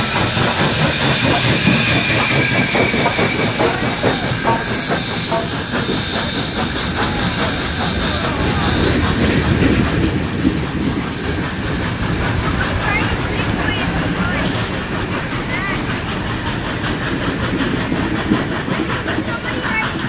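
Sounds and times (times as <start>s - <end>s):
steady high steam hiss: 0.0s - 20.0s
steam locomotive rods clanking: 0.0s - 20.0s.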